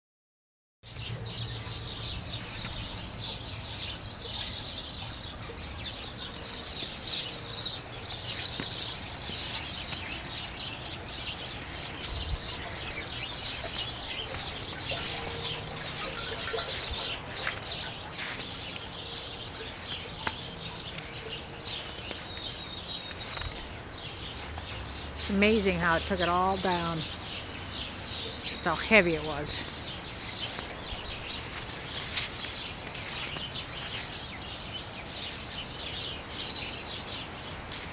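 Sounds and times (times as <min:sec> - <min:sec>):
small birds chirping: 0:00.8 - 0:37.9.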